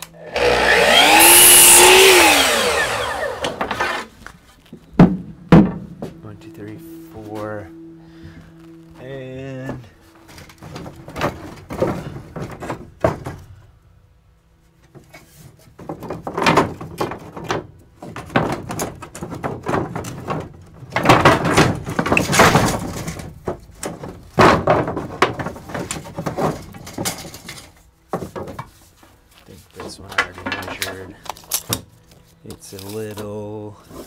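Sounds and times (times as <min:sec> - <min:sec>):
wood pieces knocking and sliding: 0:00.0 - 0:07.5, 0:09.6 - 0:13.7, 0:14.7 - 0:34.0.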